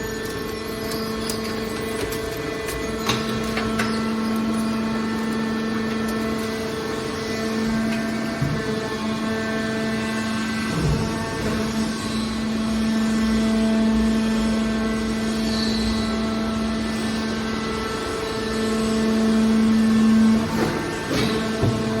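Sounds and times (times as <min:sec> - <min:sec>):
hydraulic press motor hum: 0:00.0 - 0:22.0.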